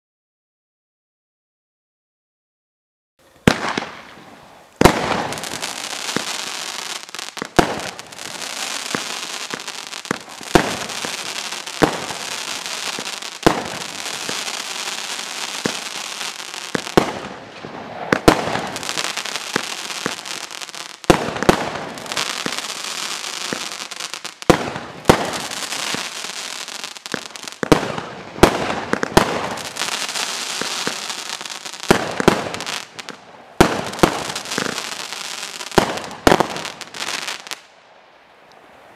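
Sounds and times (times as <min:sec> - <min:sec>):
firework crackling hiss: 0:03.3 - 0:37.7
firework bangs: 0:03.4 - 0:37.6.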